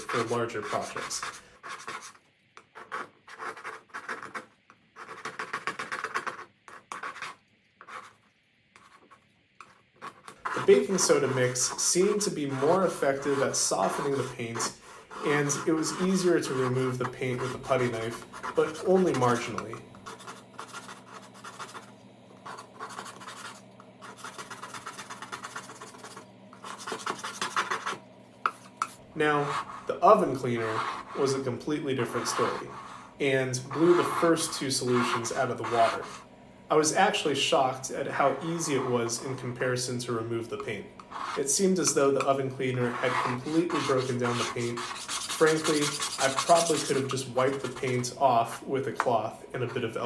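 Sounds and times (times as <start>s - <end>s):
putty knife scraping paint: 0.0s - 8.2s, 8.8s - 36.2s, 41.0s - 48.6s.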